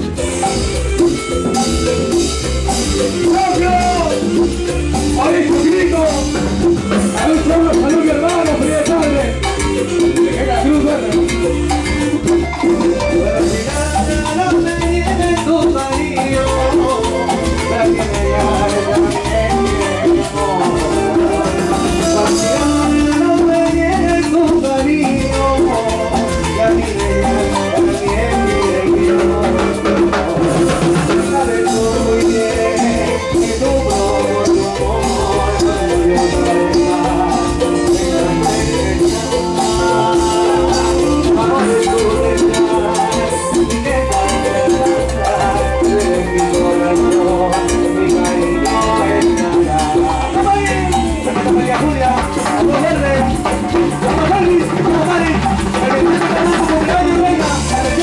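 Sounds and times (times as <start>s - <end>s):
band playing latin dance music: 0.0s - 58.0s.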